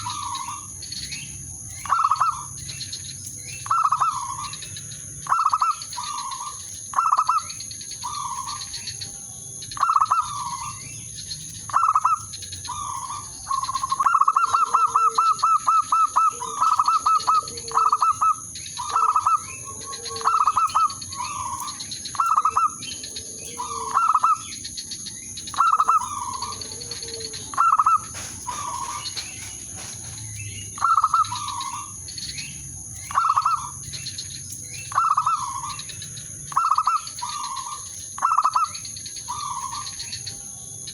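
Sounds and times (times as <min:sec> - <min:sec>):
dove cooing: 0:00.0 - 0:00.8, 0:01.8 - 0:02.6, 0:03.6 - 0:08.9, 0:09.8 - 0:11.0, 0:11.7 - 0:34.1, 0:34.9 - 0:40.9
faint bird chirps: 0:00.0 - 0:40.9.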